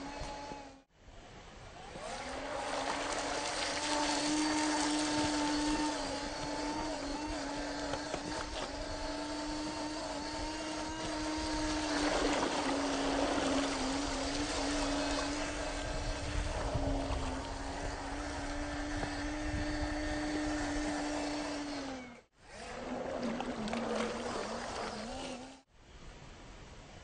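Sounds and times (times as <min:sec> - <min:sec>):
electric motor and gears whining: 0:00.0 - 0:00.9, 0:01.6 - 0:25.7.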